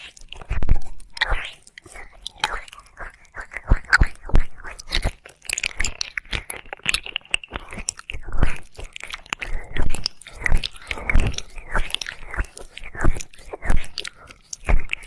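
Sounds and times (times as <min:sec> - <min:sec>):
wet mouth licking sounds: 0:00.0 - 0:15.0.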